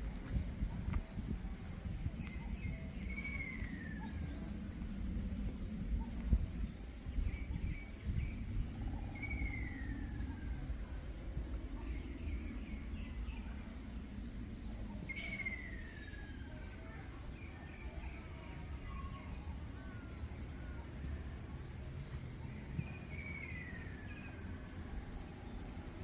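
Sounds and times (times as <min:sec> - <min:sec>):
faint high bird chirps: 0:00.0 - 0:26.0
low steady rumble: 0:00.0 - 0:26.0.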